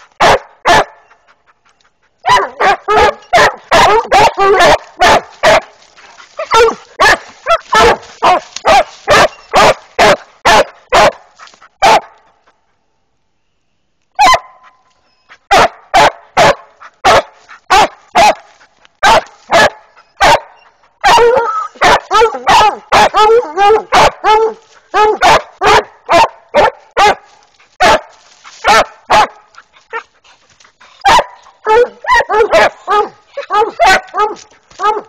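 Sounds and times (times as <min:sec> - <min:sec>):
dogs barking: 0:00.2 - 0:01.2, 0:02.2 - 0:12.3, 0:14.2 - 0:14.7, 0:15.5 - 0:30.1, 0:30.8 - 0:35.0.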